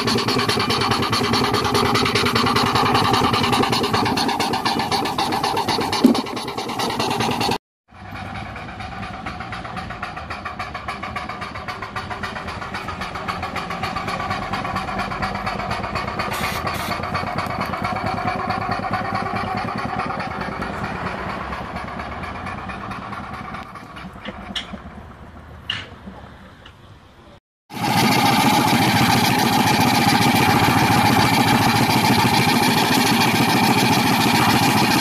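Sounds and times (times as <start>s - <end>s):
steam engine running: 0.0s - 25.6s, 27.7s - 35.0s.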